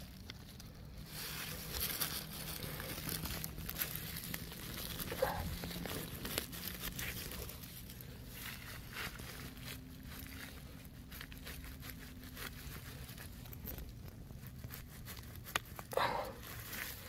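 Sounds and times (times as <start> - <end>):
leaves and twigs rustling: 0.0 - 17.0.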